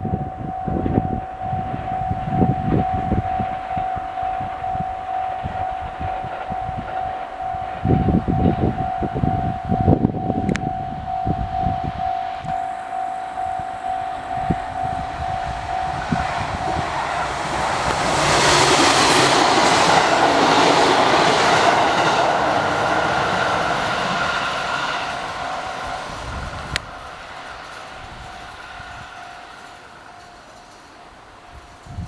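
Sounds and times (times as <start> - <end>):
electric train passing on bridge: 0.0 - 32.0.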